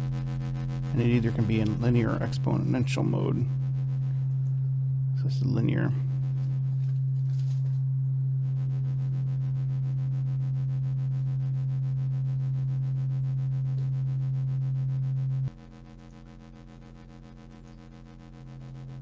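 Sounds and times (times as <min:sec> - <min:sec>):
low steady sine tone: 0:00.0 - 0:19.0.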